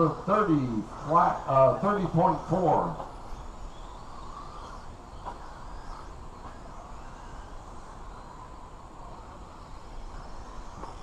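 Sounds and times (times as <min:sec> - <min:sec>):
outdoor background noise: 0:00.0 - 0:11.0
toy car motor whine: 0:00.0 - 0:11.0.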